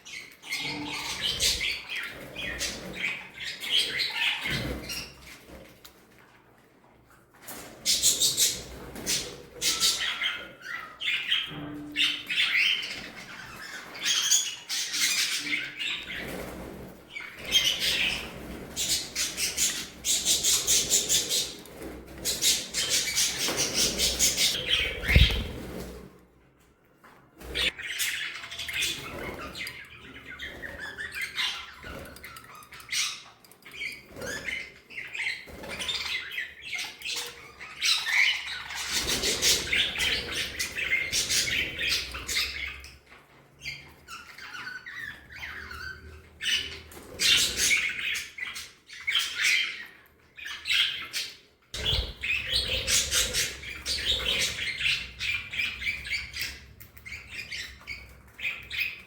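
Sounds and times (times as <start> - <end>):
budgerigars chirping and chattering: 0.0 - 5.5, 7.6 - 25.7, 27.4 - 59.0.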